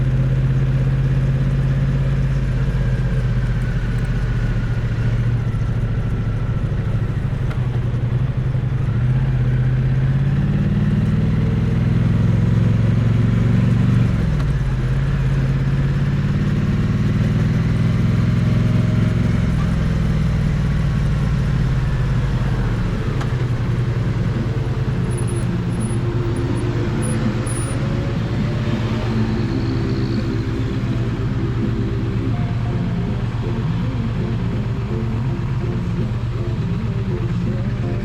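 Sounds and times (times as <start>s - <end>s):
motorcycle engine and exhaust: 0.0s - 38.0s.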